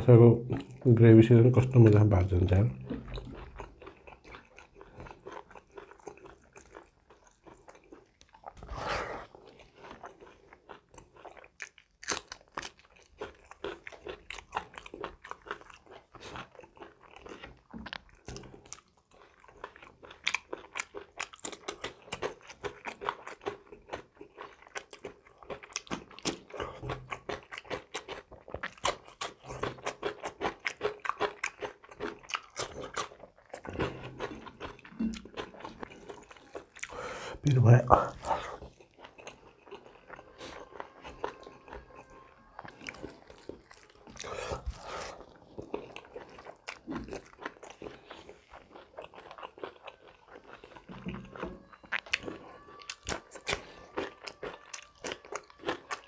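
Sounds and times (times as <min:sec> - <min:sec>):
close chewing and mouth smacks: 0:01.7 - 0:56.0.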